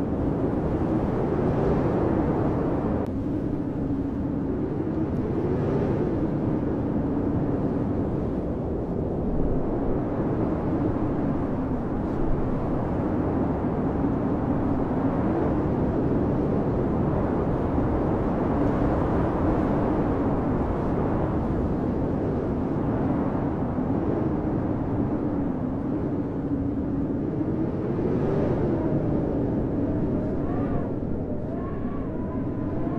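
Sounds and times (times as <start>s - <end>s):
blizzard wind howling: 0.0s - 32.9s.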